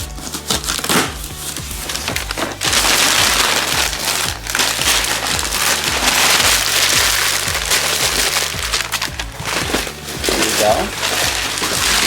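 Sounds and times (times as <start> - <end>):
wrapping paper tearing and crinkling: 0.0 - 12.0.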